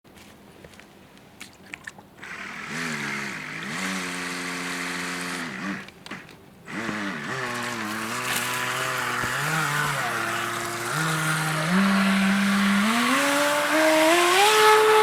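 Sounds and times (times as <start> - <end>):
boat motor whining: 2.2 - 15.0.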